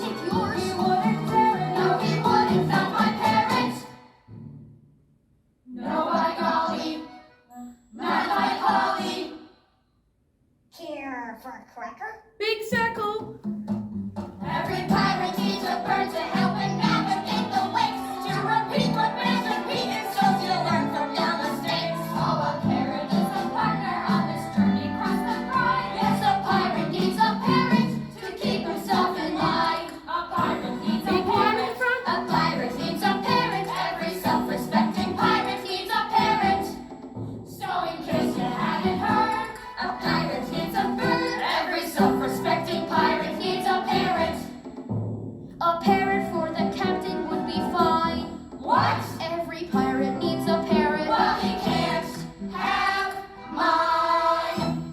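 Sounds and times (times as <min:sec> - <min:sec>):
voices singing together: 0:00.0 - 0:04.1, 0:05.7 - 0:07.3, 0:07.9 - 0:09.6, 0:14.4 - 0:36.9, 0:37.5 - 0:44.6, 0:45.6 - 0:54.9.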